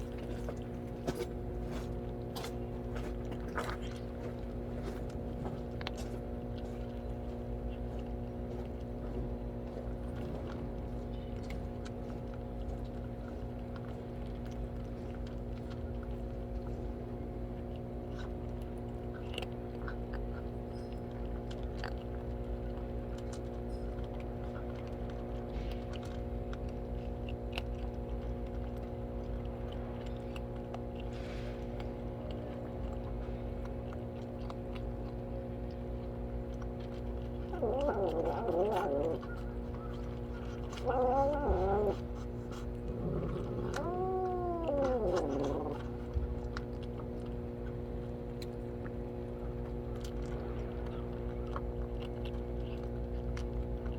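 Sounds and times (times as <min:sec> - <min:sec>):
cats chewing food: 0:00.0 - 0:53.9.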